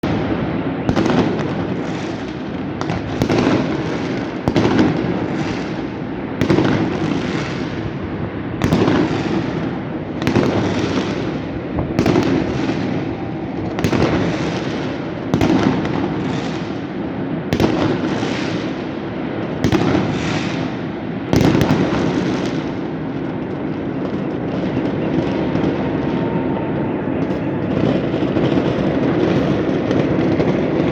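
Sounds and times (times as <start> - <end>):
distant fireworks bursts: 0.0 - 30.9
fireworks banging and crackling: 0.0 - 30.9.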